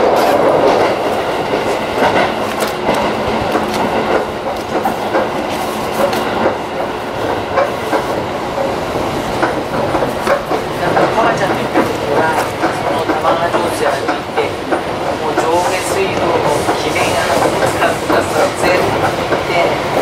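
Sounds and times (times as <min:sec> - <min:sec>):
electric train running rumble: 0:00.0 - 0:20.0
wheels clicking over rail joints: 0:00.0 - 0:20.0.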